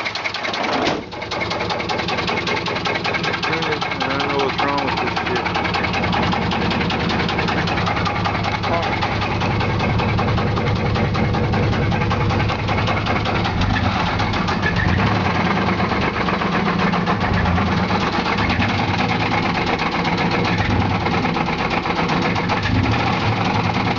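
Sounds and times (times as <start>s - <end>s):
engine running with knocking: 0.0s - 23.9s.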